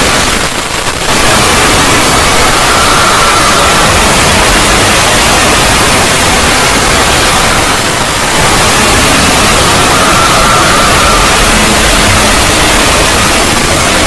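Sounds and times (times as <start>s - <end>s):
harsh distorted static noise: 0.0s - 14.0s.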